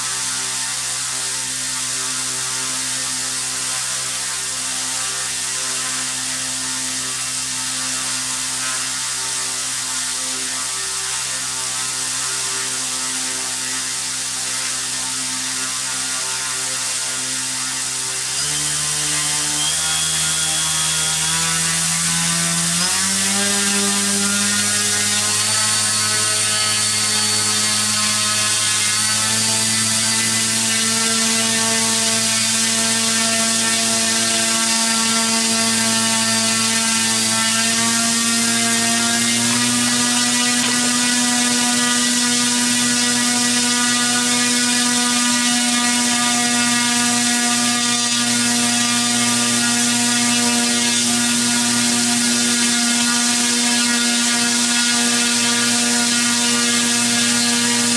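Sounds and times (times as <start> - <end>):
electric motor and propeller whine: 0.0 - 57.9.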